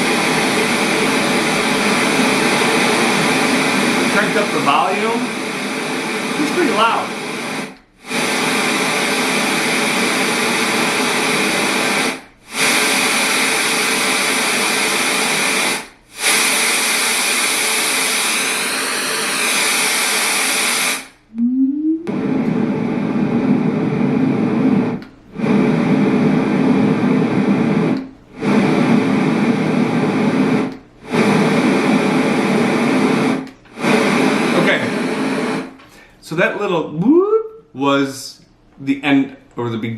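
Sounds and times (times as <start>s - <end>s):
white noise machine: 0.0s - 39.9s.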